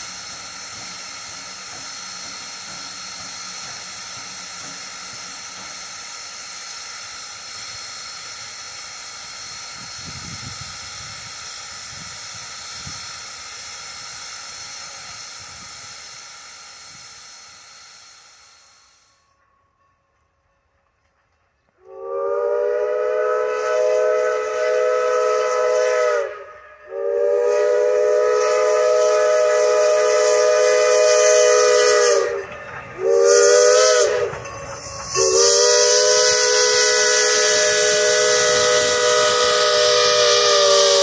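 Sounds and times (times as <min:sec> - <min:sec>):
steam locomotive venting steam: 0:00.0 - 0:19.6, 0:21.7 - 0:41.0.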